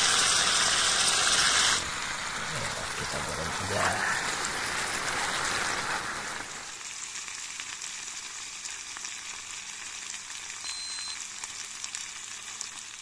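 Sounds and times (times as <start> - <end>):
food frying in hot oil: 0.0 - 13.0.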